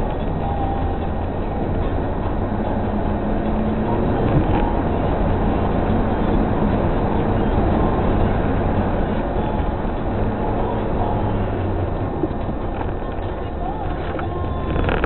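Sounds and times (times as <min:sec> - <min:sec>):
car engine droning: 0:00.0 - 0:15.0
road noise: 0:00.0 - 0:15.0.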